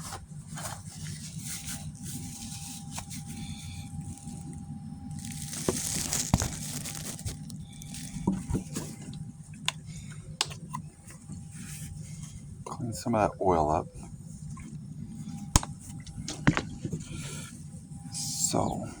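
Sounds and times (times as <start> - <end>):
rustling and crinkling: 0.0 - 12.8, 13.9 - 18.0.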